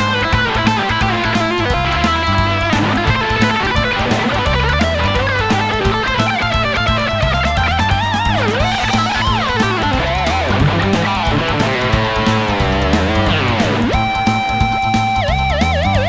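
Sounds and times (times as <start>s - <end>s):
electric guitar solo with delay: 0.0s - 16.0s.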